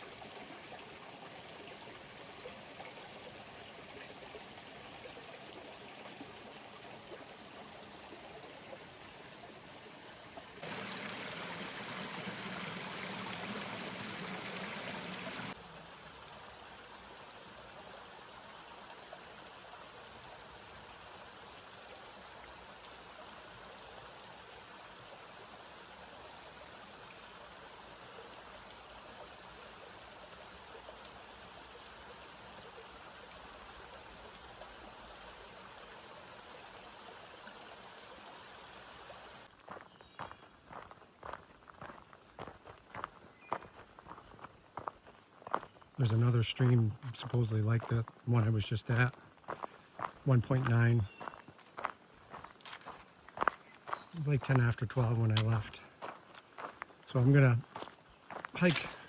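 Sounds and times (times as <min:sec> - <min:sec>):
creek water rushing: 0:00.0 - 0:39.6, 0:43.7 - 0:59.0.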